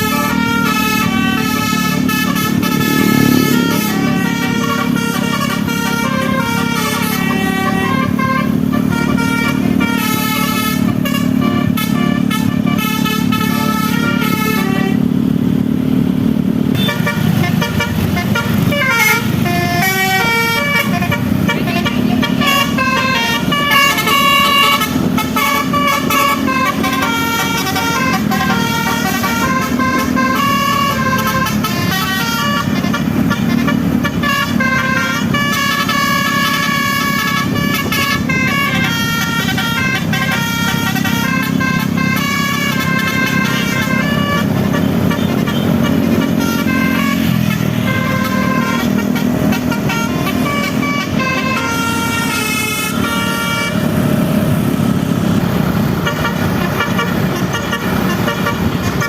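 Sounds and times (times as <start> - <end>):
bus musical air horn: 0.0 - 15.3, 16.7 - 59.0.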